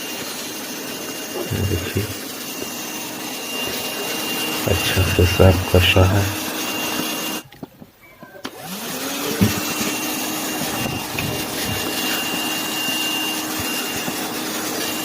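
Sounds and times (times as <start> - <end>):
car vacuum cleaner running: 0.0 - 7.5, 8.4 - 15.0.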